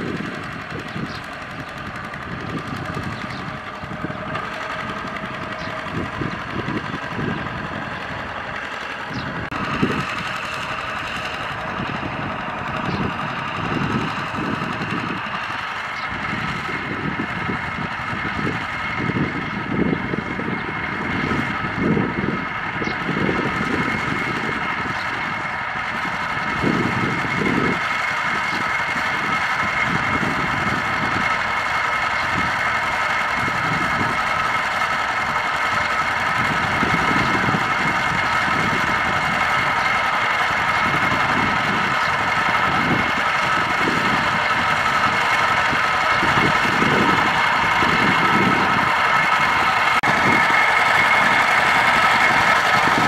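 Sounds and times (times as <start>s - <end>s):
diesel engine running: 0.0s - 53.0s
wheels churning through mud: 0.0s - 53.0s.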